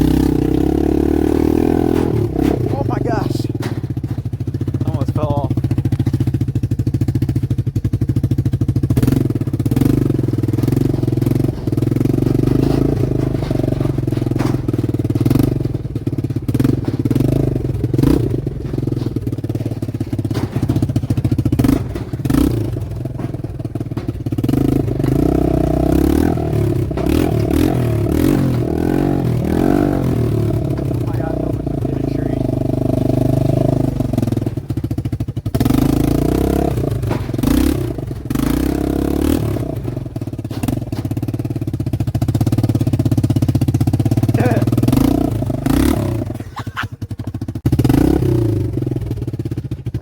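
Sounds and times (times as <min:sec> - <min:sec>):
metal toolbox clattering: 0:00.2 - 0:50.0.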